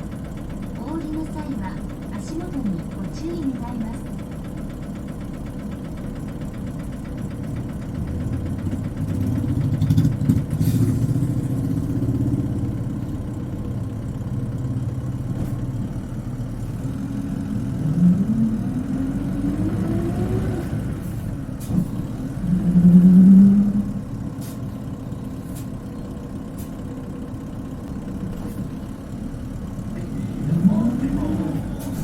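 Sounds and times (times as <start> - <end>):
bus diesel engine from inside: 0.0 - 32.0.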